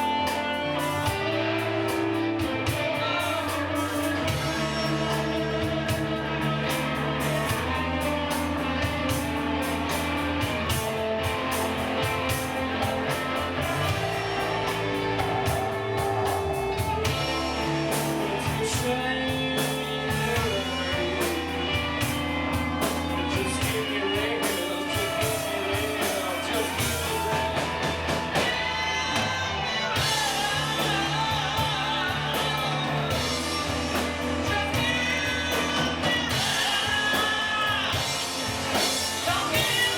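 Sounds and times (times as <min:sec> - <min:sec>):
rock song with singer: 0:00.0 - 0:39.9.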